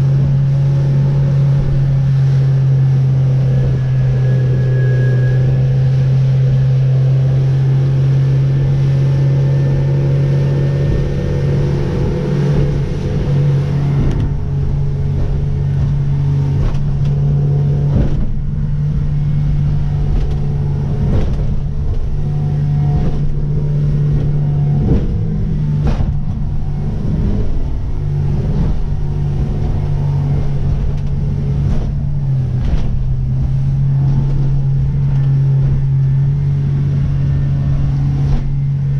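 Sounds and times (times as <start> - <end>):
boat engine humming: 0.0 - 38.9
boat hull pounding waves: 0.0 - 38.9.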